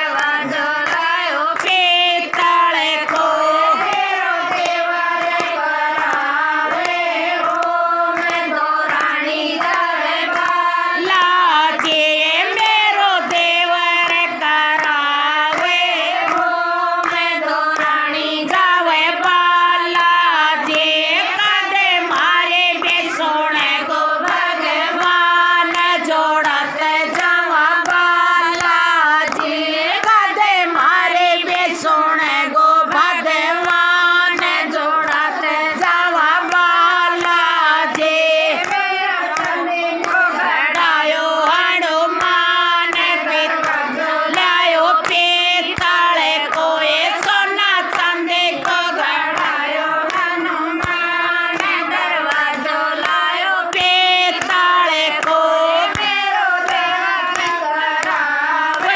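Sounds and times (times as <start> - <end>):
hand claps: 0.0 - 58.9
women singing together: 0.0 - 58.9.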